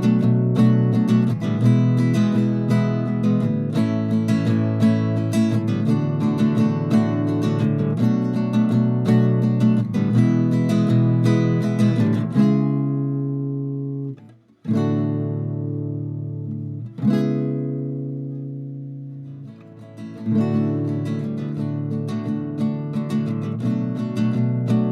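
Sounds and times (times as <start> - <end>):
acoustic guitar music: 0.0 - 24.9.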